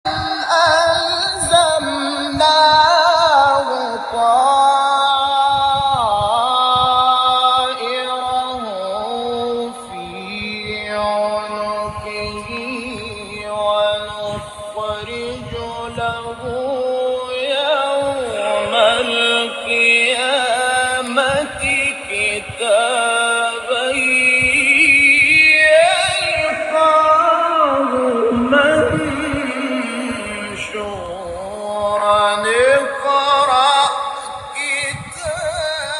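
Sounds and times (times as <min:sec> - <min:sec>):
person singing long notes: 0:00.0 - 0:35.9.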